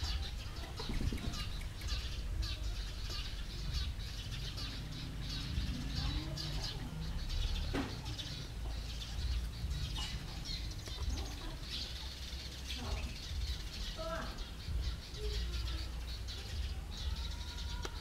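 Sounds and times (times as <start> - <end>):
steady low rumble: 0.0 - 17.1
small birds chirping: 0.0 - 18.0.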